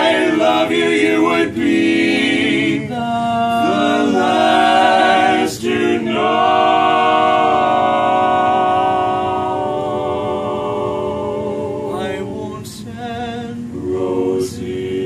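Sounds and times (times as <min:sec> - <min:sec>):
male vocal quartet singing a cappella: 0:00.0 - 0:15.0.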